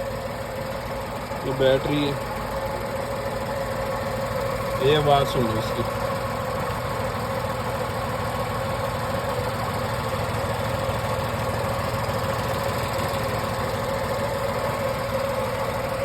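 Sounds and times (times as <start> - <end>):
car engine idling: 0.0 - 16.0
constant high hum: 0.0 - 16.0.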